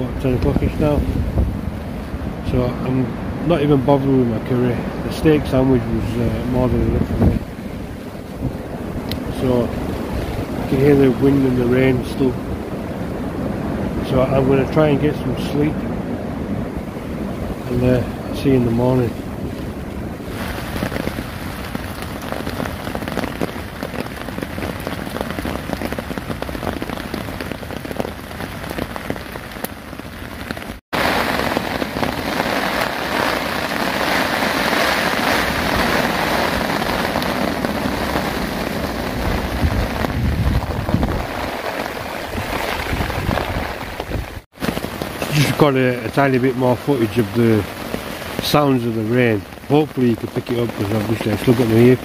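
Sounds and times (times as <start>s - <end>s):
heavy rain on a tarp: 0.0s - 52.0s.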